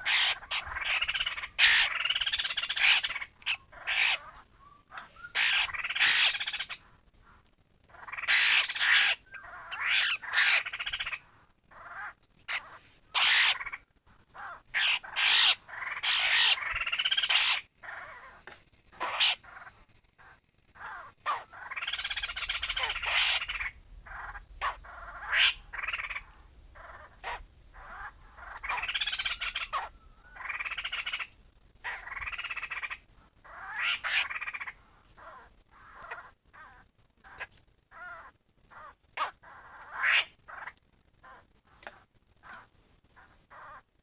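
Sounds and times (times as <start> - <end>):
birds making harsh chattering calls: 0.0 - 6.9, 7.9 - 41.4.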